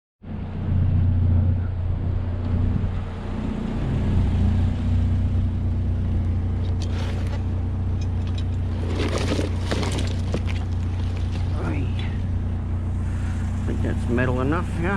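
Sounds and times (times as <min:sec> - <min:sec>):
vehicle engine droning: 0:00.2 - 0:14.9.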